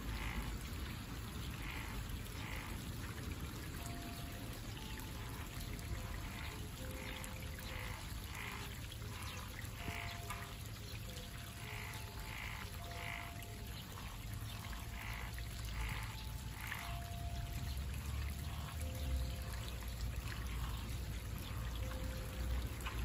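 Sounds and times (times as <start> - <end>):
frogs croaking: 0.0 - 23.0
small stream rushing: 0.0 - 23.0.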